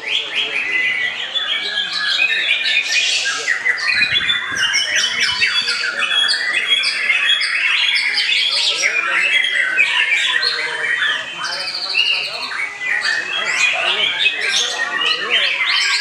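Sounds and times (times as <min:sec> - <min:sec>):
birds singing whistles and trills: 0:00.0 - 0:16.0.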